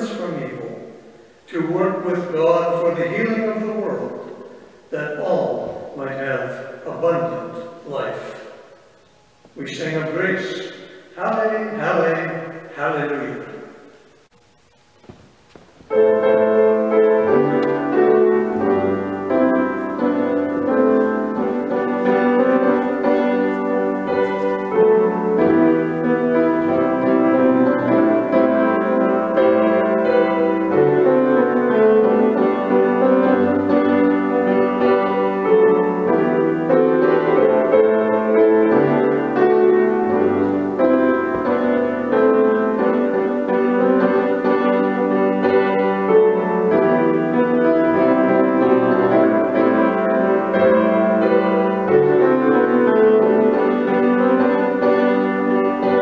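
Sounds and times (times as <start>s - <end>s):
grand piano playing chords: 0.0s - 56.0s.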